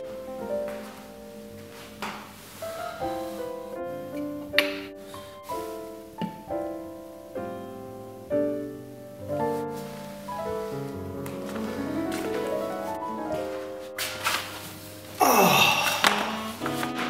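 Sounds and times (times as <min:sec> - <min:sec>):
solo piano music: 0:00.0 - 0:15.2, 0:15.9 - 0:17.0.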